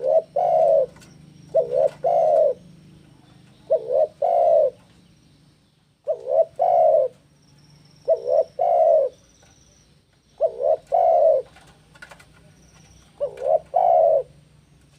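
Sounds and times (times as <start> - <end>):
dove cooing: 0.0 - 5.0, 6.0 - 7.3, 7.9 - 14.6.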